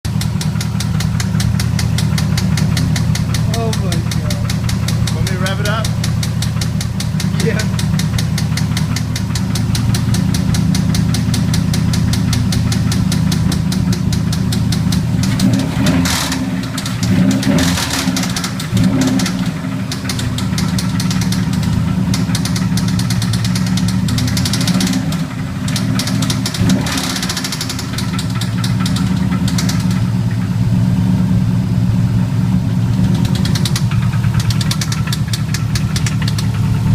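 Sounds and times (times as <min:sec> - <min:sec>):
car engine idling and revving: 0:00.0 - 0:36.9
fast knocking tick: 0:00.1 - 0:15.6, 0:16.2 - 0:30.0, 0:33.1 - 0:36.6.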